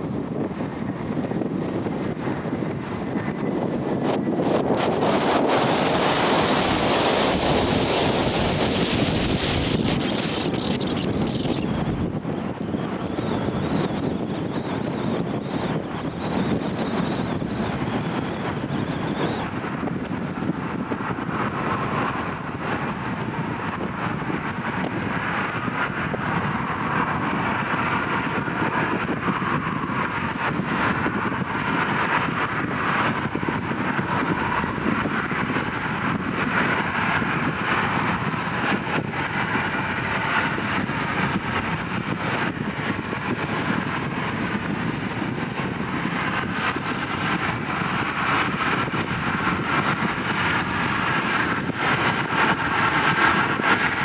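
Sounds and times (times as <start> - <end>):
jet engines whining at taxi power: 0.0 - 54.0.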